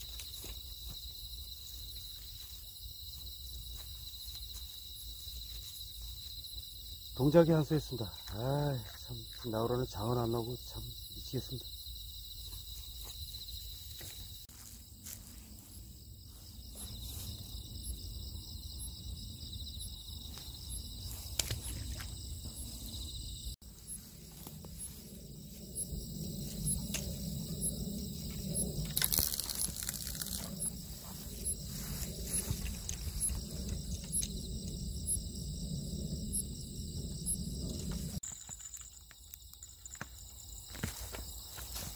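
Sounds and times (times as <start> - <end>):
insects chirping: 0.0 - 41.9.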